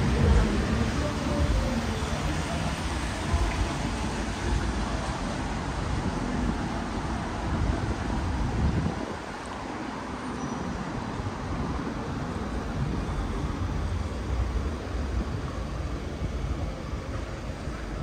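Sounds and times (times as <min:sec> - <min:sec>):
cars passing: 0:00.0 - 0:18.0
engine and tyre noise: 0:00.0 - 0:18.0.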